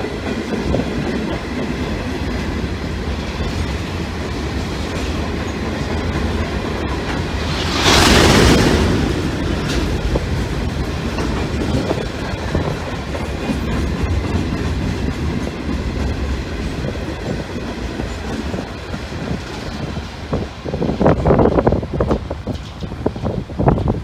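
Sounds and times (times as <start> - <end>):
freight train wheels on rails: 0.0 - 24.0.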